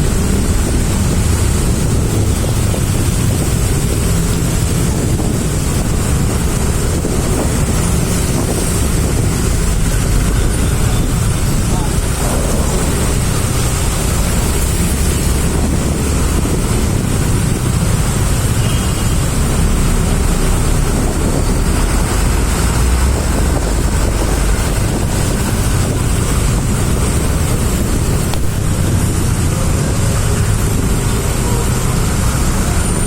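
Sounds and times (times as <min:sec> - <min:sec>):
road traffic rumble: 0:00.0 - 0:33.0
wind buffeting microphone: 0:00.0 - 0:33.0.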